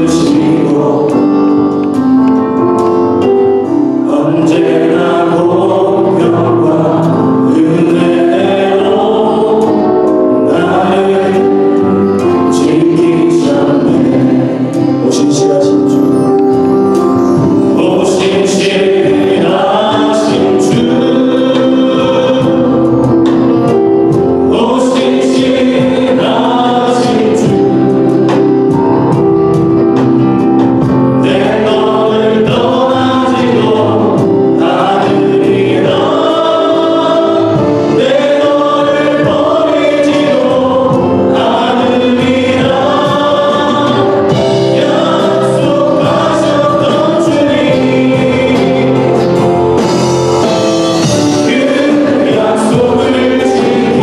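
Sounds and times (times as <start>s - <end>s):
congregation singing worship song: 0.0s - 54.0s
instrumental accompaniment: 0.0s - 54.0s.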